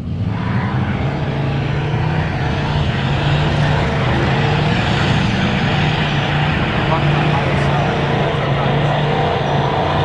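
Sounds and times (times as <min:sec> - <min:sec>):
loud engine droning: 0:00.0 - 0:10.0.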